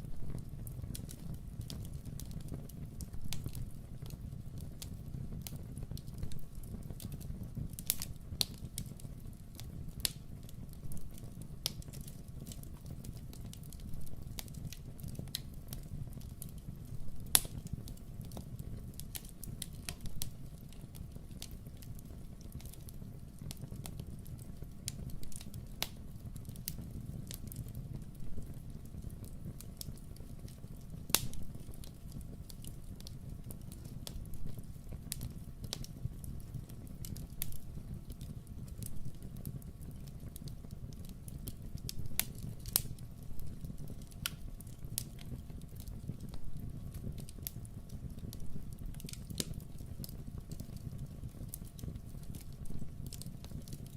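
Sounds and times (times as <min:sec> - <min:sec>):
fire crackling and popping: 0:00.0 - 0:53.9
fire rumbling: 0:00.0 - 0:53.9.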